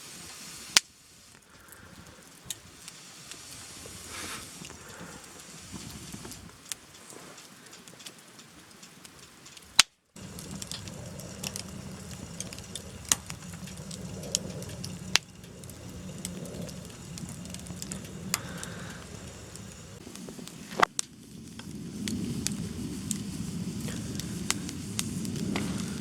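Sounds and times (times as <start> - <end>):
fire crackling and popping: 0.0 - 26.0
wood fire burning: 0.0 - 26.0.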